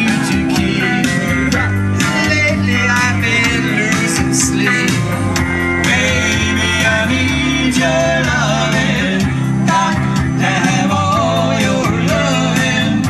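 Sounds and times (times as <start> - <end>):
song with voice and guitar: 0.0 - 13.0.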